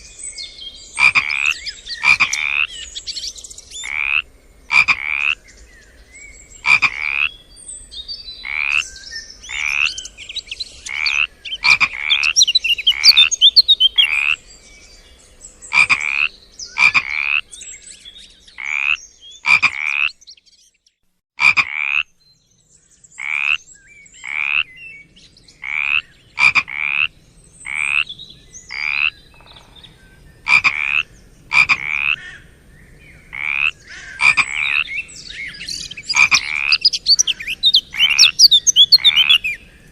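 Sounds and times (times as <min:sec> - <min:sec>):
high chirping calls: 0:00.0 - 0:20.4, 0:23.2 - 0:39.9
frogs croaking: 0:00.8 - 0:07.5, 0:08.3 - 0:14.5, 0:15.6 - 0:20.2, 0:21.4 - 0:22.2, 0:23.2 - 0:24.8, 0:25.5 - 0:39.9.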